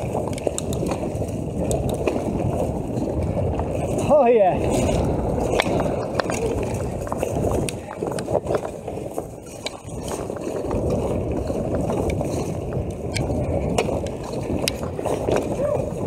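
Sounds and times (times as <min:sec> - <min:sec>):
bike clicks and rattles: 0:00.0 - 0:16.0
bike tyres rumbling on mud: 0:00.0 - 0:16.0.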